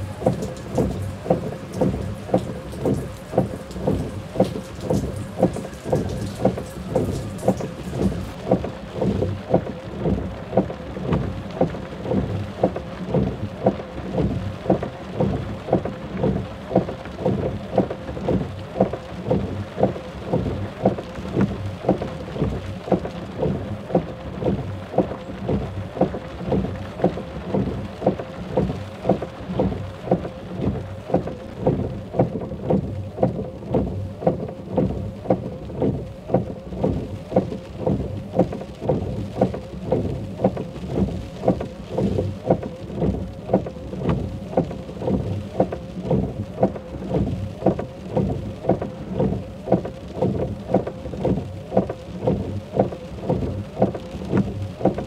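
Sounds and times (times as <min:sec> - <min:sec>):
rhythmic thudding: 0:00.0 - 0:55.0.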